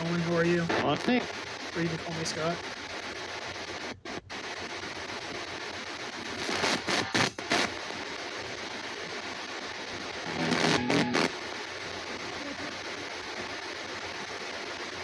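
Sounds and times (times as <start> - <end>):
radio crackling bursts: 0.0 - 15.0
radio static hiss: 0.0 - 15.0.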